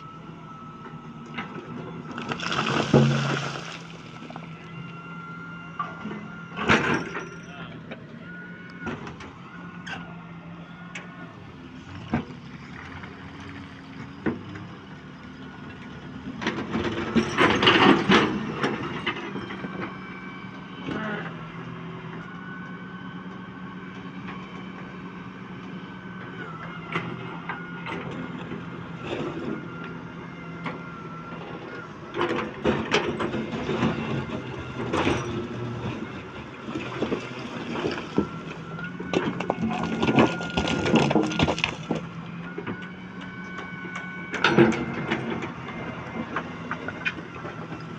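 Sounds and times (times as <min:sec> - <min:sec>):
construction machine engine: 0:00.0 - 0:47.9.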